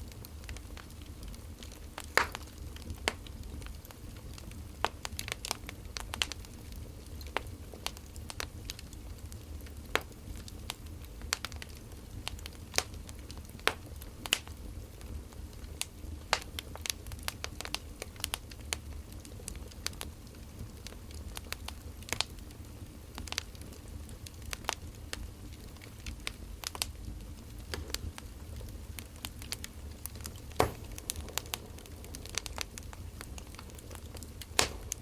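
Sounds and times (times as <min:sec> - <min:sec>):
fire low rumble: 0:00.0 - 0:35.0
firewood crackling and popping: 0:00.0 - 0:35.0.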